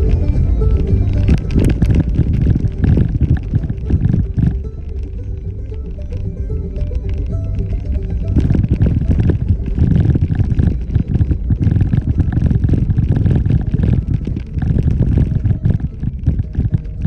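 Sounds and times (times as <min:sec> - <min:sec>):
off-road vehicle engine rumble: 0:00.0 - 0:17.0.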